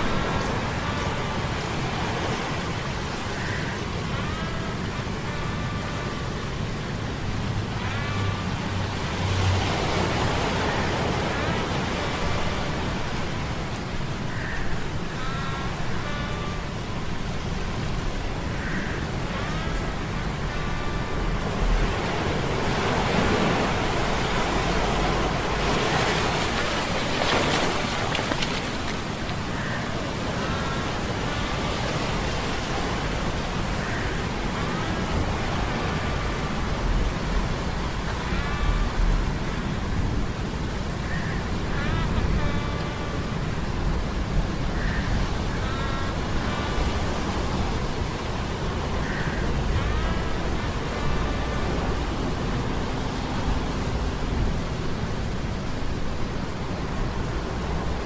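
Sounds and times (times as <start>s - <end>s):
stormy sea waves: 0.0s - 58.0s.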